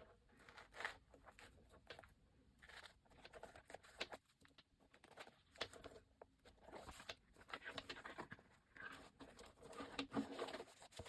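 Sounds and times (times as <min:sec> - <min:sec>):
paper notebook rustling and scraping: 0:00.0 - 0:11.0.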